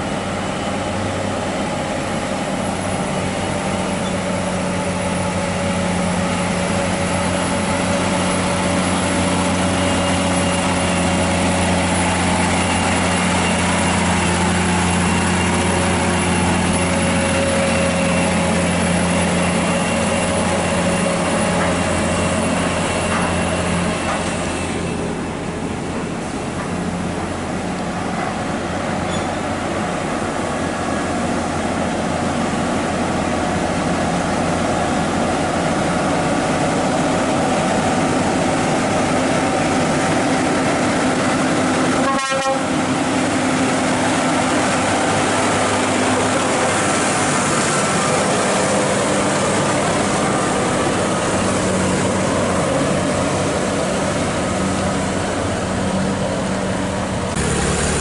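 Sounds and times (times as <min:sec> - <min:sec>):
truck diesel engine pulling uphill: 0:00.0 - 0:58.0.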